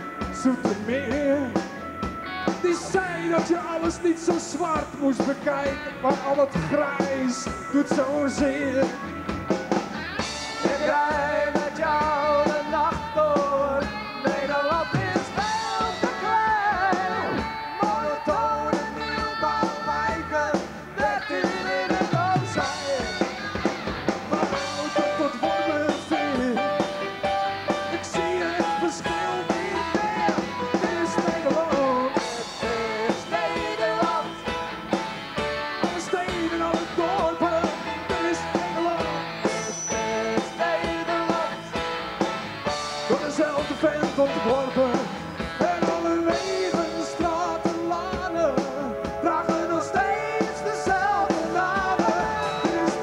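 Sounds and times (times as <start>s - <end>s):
man singing into a microphone: 0.0s - 1.7s, 2.6s - 9.2s, 10.5s - 23.4s, 24.3s - 26.8s, 27.8s - 34.4s, 35.8s - 41.8s, 43.0s - 53.0s
drum kit: 0.0s - 53.0s
electric guitar: 0.0s - 53.0s.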